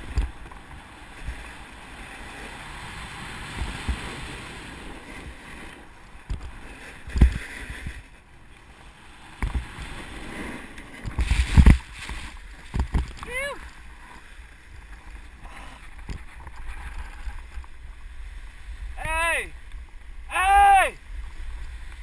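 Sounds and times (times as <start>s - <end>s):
wind on microphone: 0.0s - 8.3s, 9.2s - 22.0s
snowboard scraping over snow: 0.0s - 19.0s.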